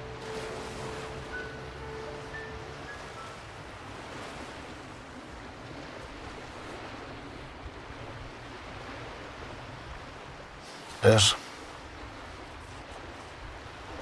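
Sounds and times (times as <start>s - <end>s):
sea surf washing on beach: 0.0s - 14.0s.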